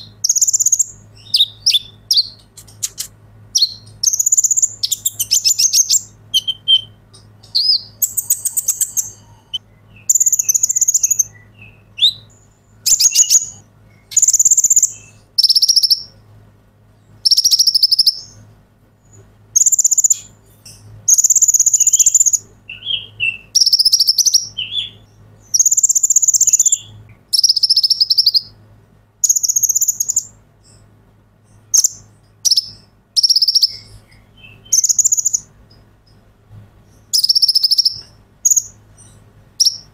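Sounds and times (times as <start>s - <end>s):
sunbird chirping song: 0.0s - 28.6s, 29.2s - 39.9s.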